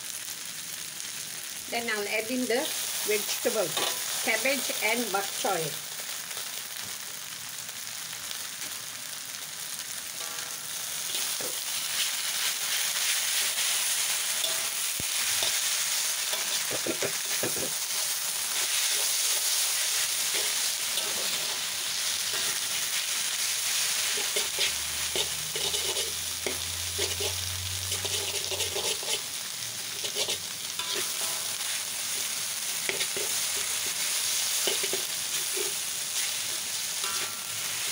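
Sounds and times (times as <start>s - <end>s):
vegetables sizzling in a wok: 0.0s - 37.9s
metal spatula scraping wok: 2.6s - 5.4s, 10.2s - 37.9s.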